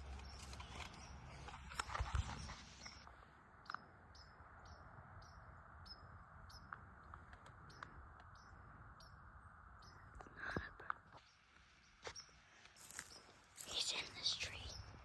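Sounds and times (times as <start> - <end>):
faint songbird chirping: 0.0 - 15.0.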